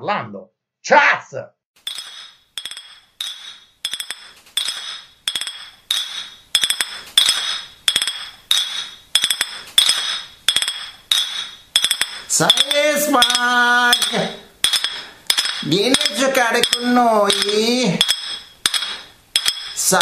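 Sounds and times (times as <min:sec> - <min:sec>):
metal utensil tapping a cup: 0:01.9 - 0:19.8.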